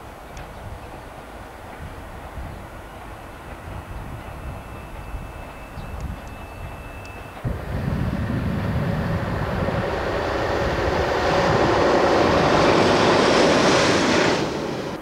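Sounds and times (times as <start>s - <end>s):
rail vehicle engine and wheels: 0.0s - 15.0s.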